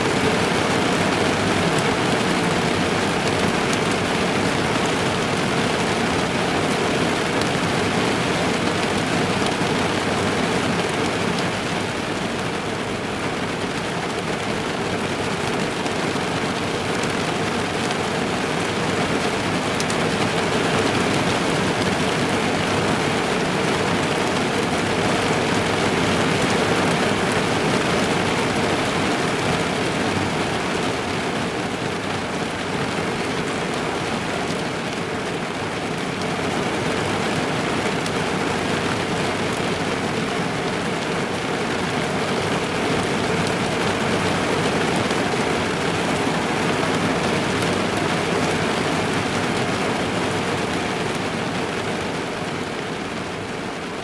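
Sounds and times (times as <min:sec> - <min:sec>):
rain drumming on car roof: 0:00.0 - 0:54.0.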